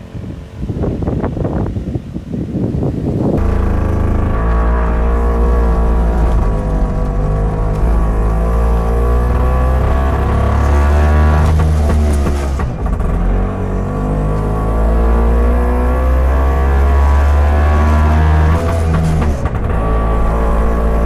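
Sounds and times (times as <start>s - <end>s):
two-stroke engine accelerating: 3.2s - 21.0s.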